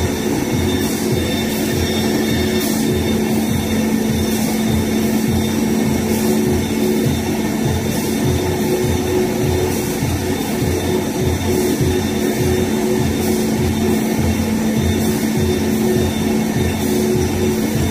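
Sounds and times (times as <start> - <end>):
machine hum: 0.0 - 17.9
rapid low knocking: 0.0 - 17.9.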